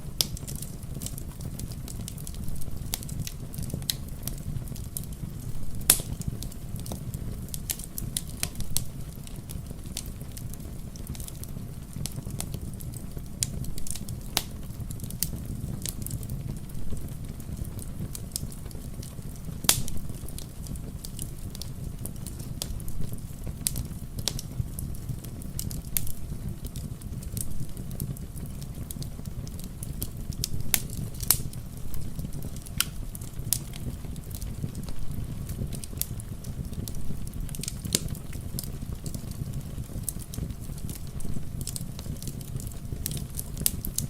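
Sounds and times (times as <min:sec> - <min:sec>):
wood fire crackling and popping: 0:00.0 - 0:44.0.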